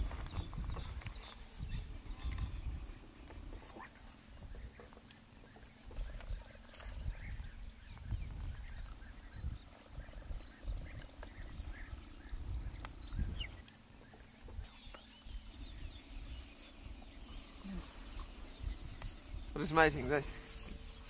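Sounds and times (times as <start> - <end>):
cheetahs purring: 0.0 - 21.0
faint bird chirps: 0.0 - 21.0.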